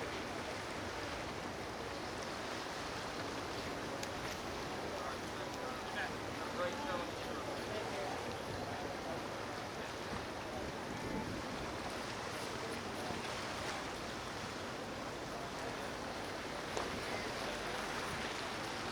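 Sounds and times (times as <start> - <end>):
rushing water: 0.0 - 18.9
wind: 0.0 - 18.9.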